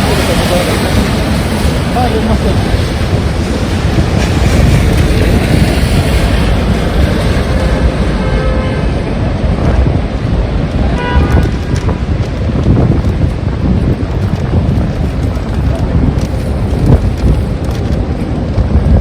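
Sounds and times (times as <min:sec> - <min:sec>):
heavy rain hiss: 0:00.0 - 0:18.8
wind buffeting microphone: 0:00.0 - 0:19.0.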